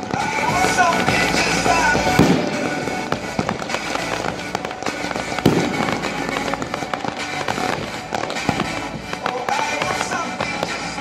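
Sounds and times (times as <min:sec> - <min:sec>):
fireworks bursting with crackle: 0:00.0 - 0:11.0
music: 0:00.0 - 0:11.0.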